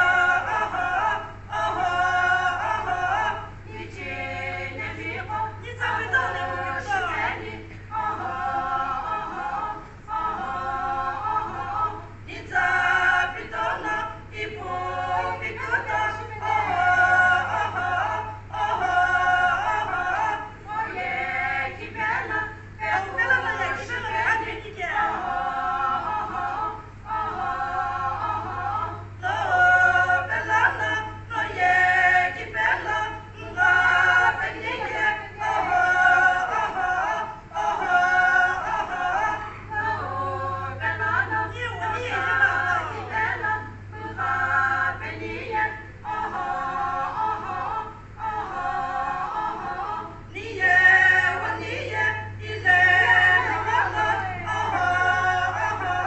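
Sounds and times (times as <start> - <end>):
steady low hum: 0.0 - 56.0
women singing unaccompanied: 0.0 - 56.0.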